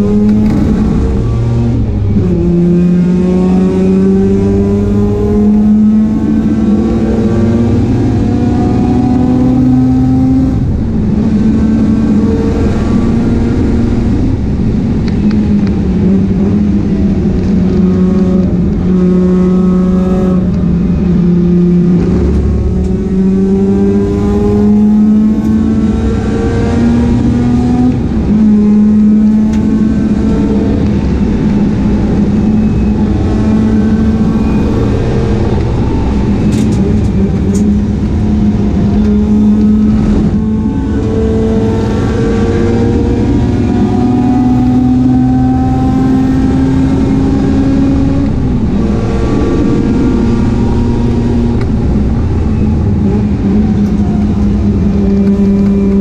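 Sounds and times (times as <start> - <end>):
rotary engine revving: 0.0 - 56.0.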